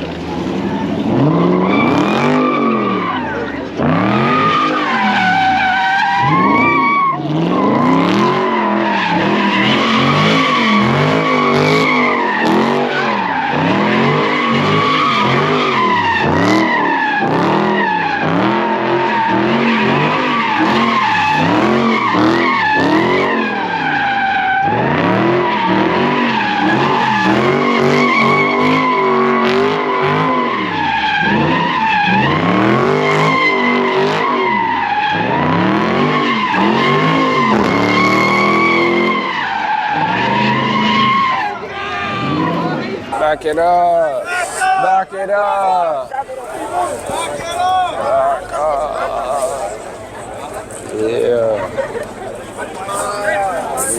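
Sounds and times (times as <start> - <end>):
car engine revving: 0.0 - 53.9
tyres squealing: 0.6 - 53.9.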